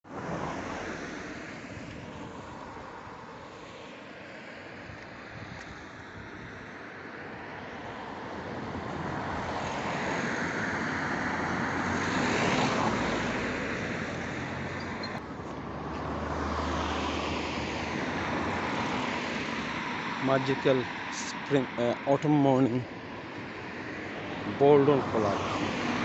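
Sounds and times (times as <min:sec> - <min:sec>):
vehicles passing with tyre noise: 0:00.0 - 0:26.0.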